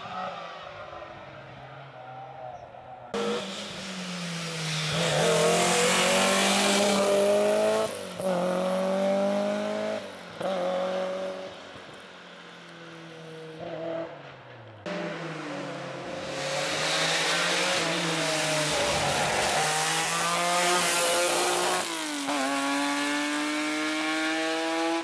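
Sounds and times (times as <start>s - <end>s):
rally car engine revving: 1.6s - 11.5s, 14.8s - 25.0s.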